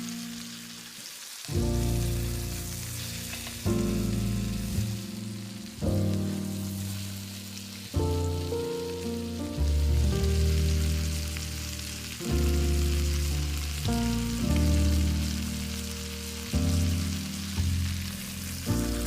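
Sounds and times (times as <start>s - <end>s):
food frying in a pan: 0.0s - 19.0s
music with sustained chords: 1.6s - 19.0s.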